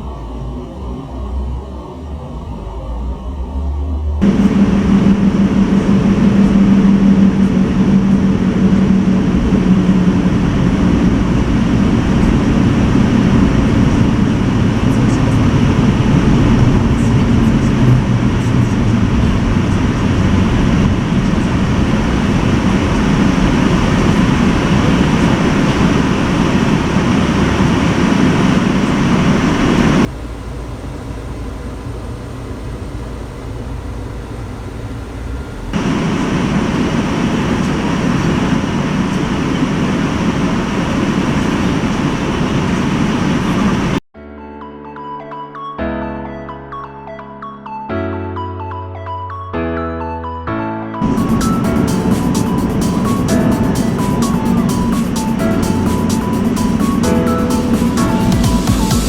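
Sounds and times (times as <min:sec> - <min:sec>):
car running noise: 0:00.0 - 0:44.0, 0:51.0 - 0:59.0
low hum: 0:00.0 - 0:44.0, 0:51.0 - 0:59.0.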